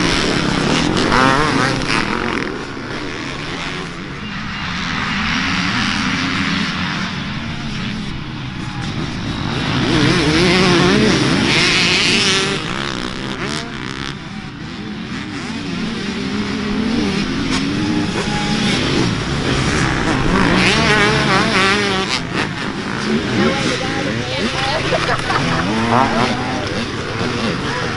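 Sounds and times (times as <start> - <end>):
dirt bike engines revving: 0.0 - 27.9.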